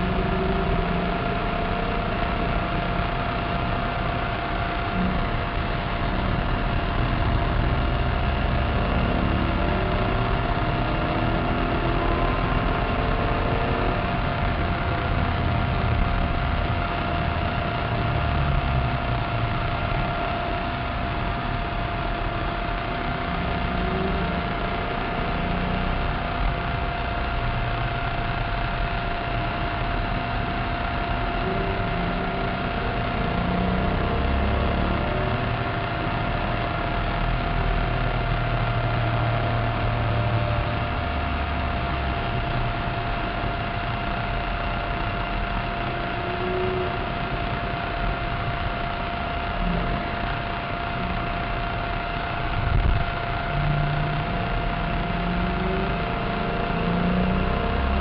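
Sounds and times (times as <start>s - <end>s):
car engine from inside cabin: 0.0s - 58.0s
thin high whine: 0.0s - 58.0s.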